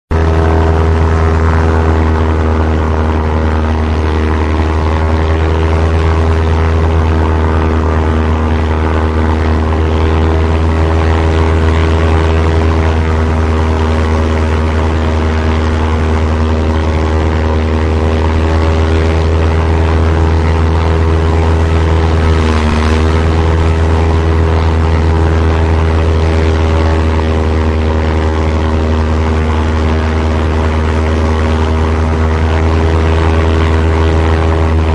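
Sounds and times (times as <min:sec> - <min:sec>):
propeller aeroplane engines droning: 0:00.1 - 0:34.9.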